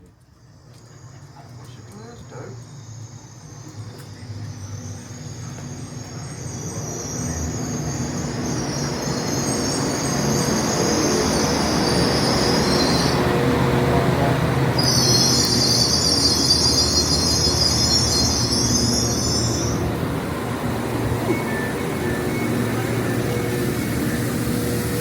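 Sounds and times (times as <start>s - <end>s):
passenger train arriving: 0.0s - 25.0s
wheel and brake squeal: 0.4s - 14.0s, 14.7s - 25.0s.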